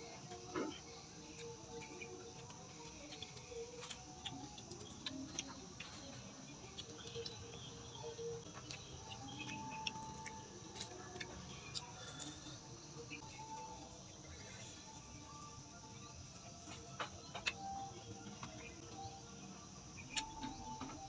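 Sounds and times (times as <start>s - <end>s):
close-up eating and chewing: 0.0s - 21.0s.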